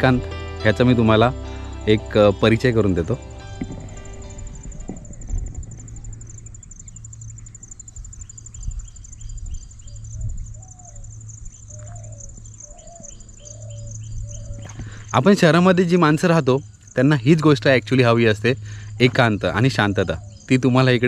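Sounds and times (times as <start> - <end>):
low steady rumble: 0.0 - 19.5
birds calling: 0.0 - 21.0
insects trilling: 0.0 - 21.0.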